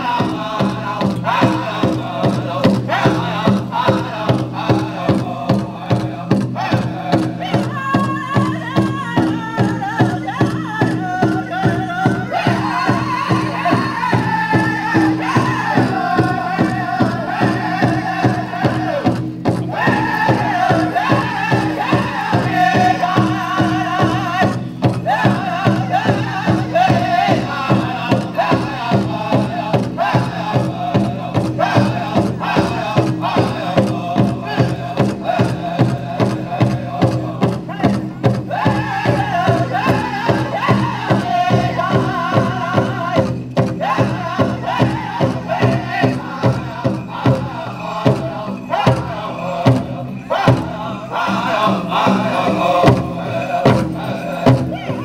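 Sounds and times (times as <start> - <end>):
group singing in unison: 0.0 - 55.0
large drum beat: 0.0 - 55.0.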